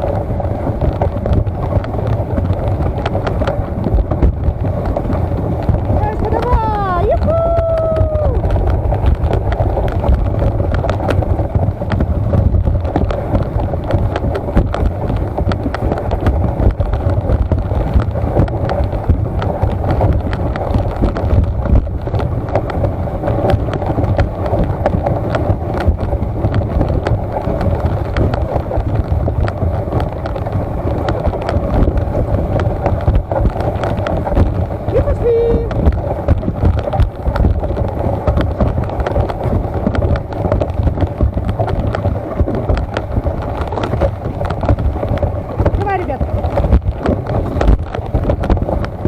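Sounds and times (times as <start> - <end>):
crackle of small clicks: 0.0 - 49.0
vehicle rumble: 0.0 - 49.0
wind noise on microphone: 0.0 - 49.0.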